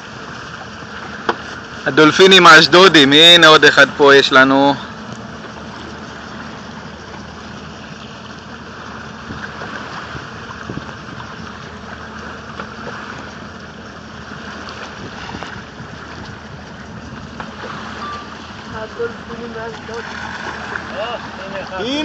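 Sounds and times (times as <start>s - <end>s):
motorboat engine hum: 0.0s - 22.0s
rushing water and wind: 0.0s - 22.0s.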